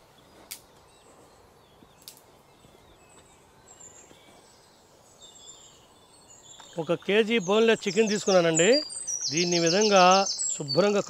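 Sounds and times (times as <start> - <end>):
distant bird chirps: 0.0 - 11.0
faint outdoor ambience: 0.0 - 11.0.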